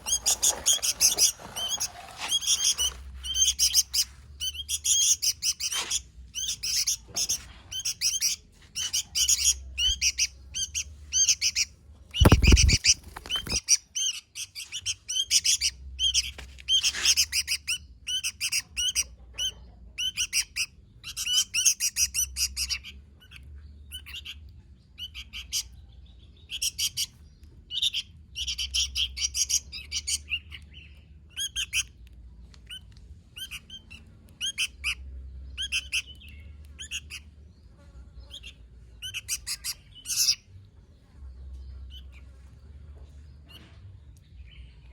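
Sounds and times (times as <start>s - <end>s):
bird chattering song: 0.0s - 32.0s, 32.7s - 40.7s, 41.4s - 42.3s.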